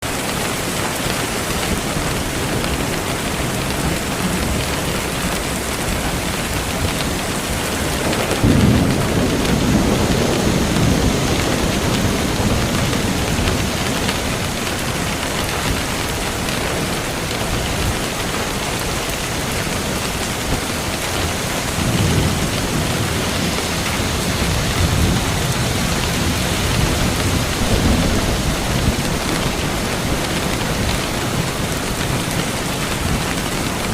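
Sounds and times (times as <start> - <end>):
heavy rain: 0.0 - 33.9
thunder rumbling: 0.0 - 33.9.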